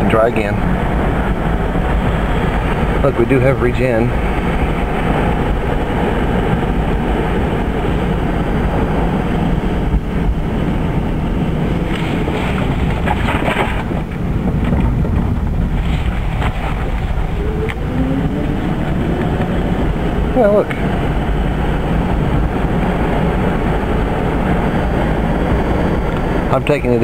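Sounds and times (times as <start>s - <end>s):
rushing air in car cabin: 0.0s - 27.0s.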